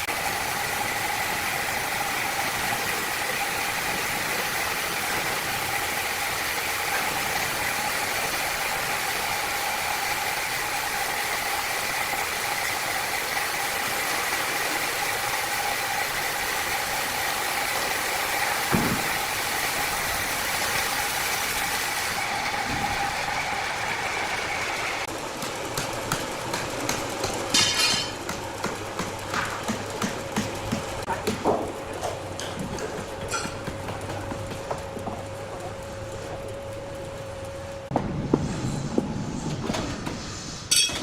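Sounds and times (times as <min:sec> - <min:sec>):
machinery running with whine: 0:00.0 - 0:40.9.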